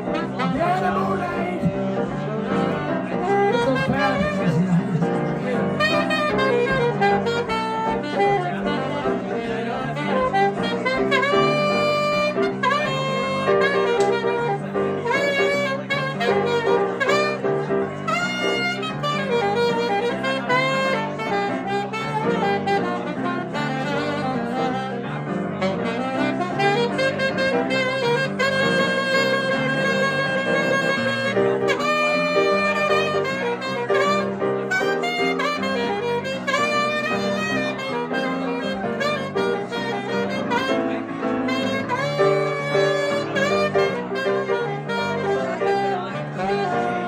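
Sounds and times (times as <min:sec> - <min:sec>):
piano chords: 0:00.0 - 0:47.0
saxophone melody: 0:00.0 - 0:47.0.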